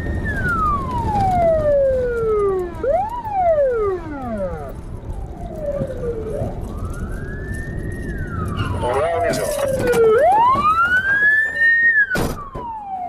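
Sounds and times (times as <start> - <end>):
police siren wailing: 0.0 - 13.0
road and engine rumble: 0.0 - 13.0.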